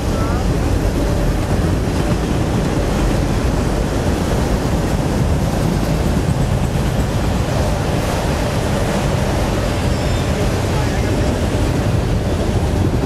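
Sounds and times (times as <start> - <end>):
freight train wheels rumbling on rails: 0.0 - 13.0.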